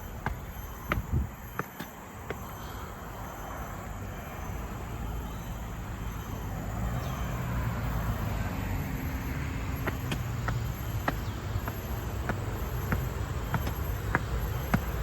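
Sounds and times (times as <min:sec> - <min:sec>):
low engine hum: 0:00.0 - 0:15.0
vehicle approaching on road: 0:00.0 - 0:15.0.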